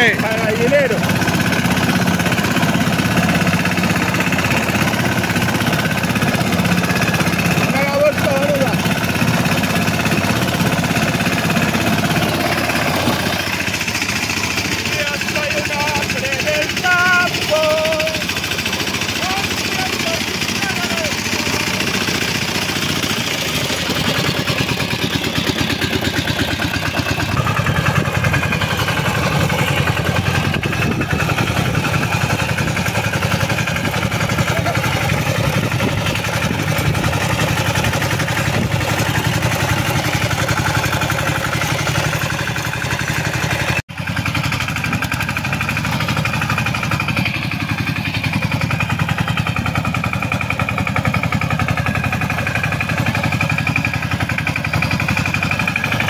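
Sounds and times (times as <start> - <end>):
walking tractor engine puttering: 0.0 - 56.0.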